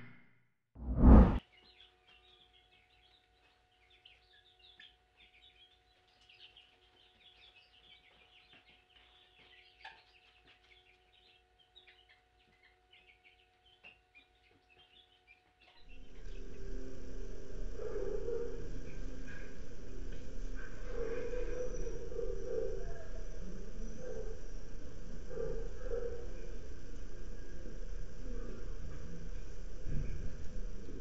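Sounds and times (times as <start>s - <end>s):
baby chicks peeping: 1.4s - 31.0s
room noise with low hum: 1.5s - 31.0s.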